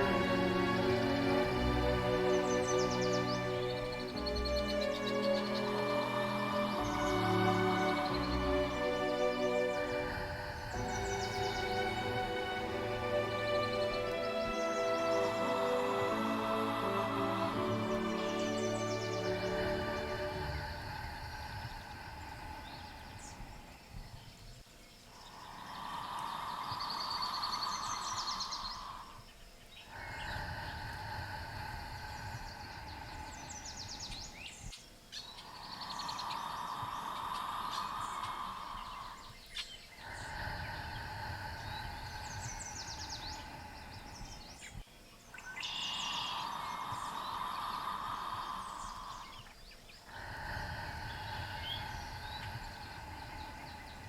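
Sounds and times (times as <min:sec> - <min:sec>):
birds chirping: 0:00.0 - 0:54.0
soft ambient sound bed: 0:00.0 - 0:54.0.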